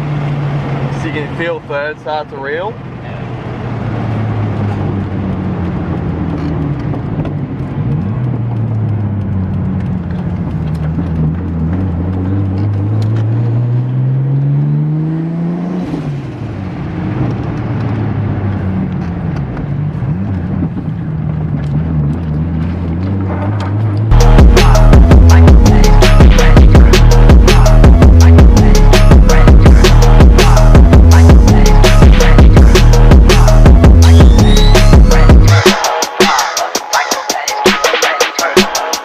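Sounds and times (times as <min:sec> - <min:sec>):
car engine accelerating: 0:00.0 - 0:35.7.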